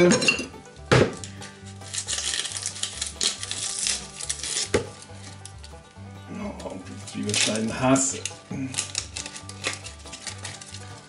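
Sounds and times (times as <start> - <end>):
background music with bass: 0.0 - 11.0
onion skin crackling and rustling: 0.0 - 11.0.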